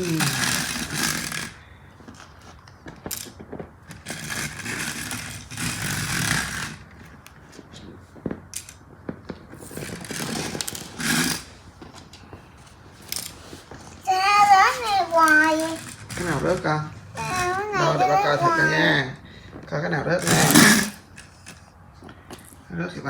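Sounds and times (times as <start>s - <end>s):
plastic wheels rolling and scraping: 0.0s - 22.7s.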